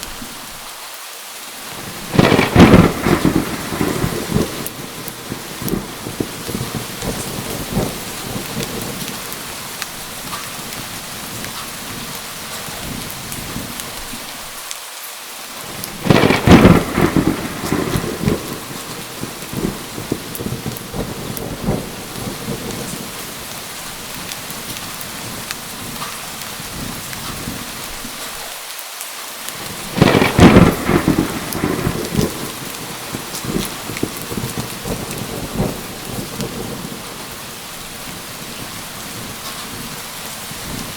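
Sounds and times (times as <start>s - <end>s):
heavy rain: 0.0s - 40.9s
thunderclaps: 1.7s - 14.2s, 15.6s - 28.3s, 29.5s - 40.9s.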